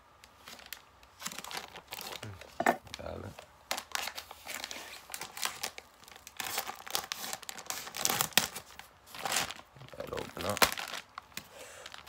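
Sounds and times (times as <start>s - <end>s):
plastic bag crinkling and tearing: 0.2s - 12.0s.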